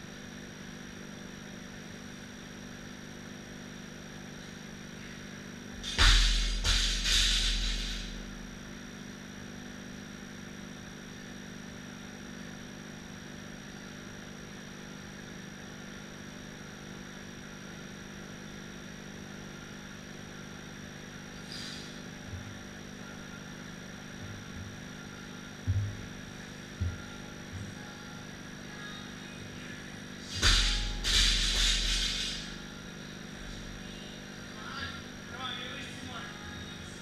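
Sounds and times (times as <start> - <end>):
background hum: 0.0 - 37.0.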